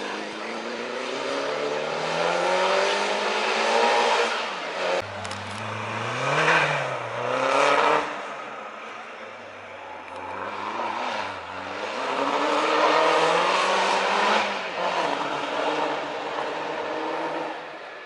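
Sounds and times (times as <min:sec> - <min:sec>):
racing car engine accelerating: 0:00.1 - 0:08.6, 0:10.0 - 0:17.6.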